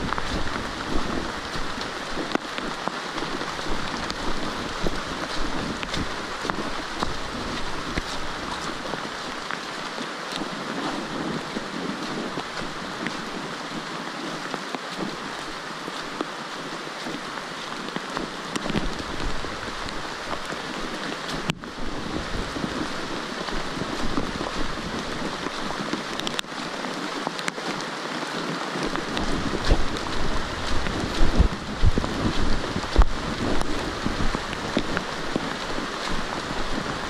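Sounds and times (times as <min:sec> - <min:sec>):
rain on foliage: 0:00.0 - 0:37.0
wind rumble on microphone: 0:00.0 - 0:37.0.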